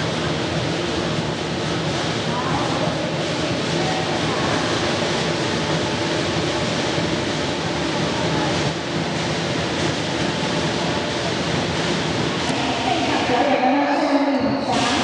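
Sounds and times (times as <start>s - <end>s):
crowd noise in sports hall: 0.0s - 15.0s.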